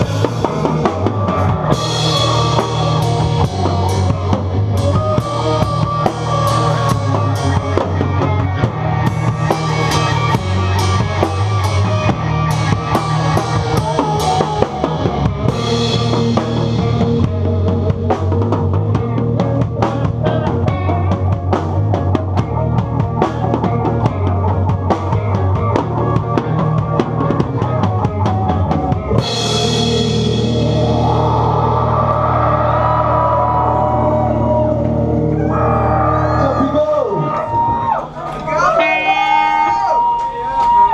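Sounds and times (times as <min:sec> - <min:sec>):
drum kit beat: 0:00.0 - 0:35.1
rock song: 0:00.0 - 0:38.0.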